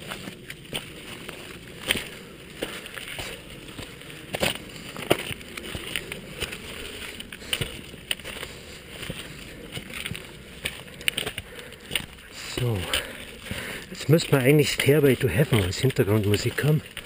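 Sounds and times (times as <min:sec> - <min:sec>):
footsteps on gravel: 0:00.0 - 0:17.0.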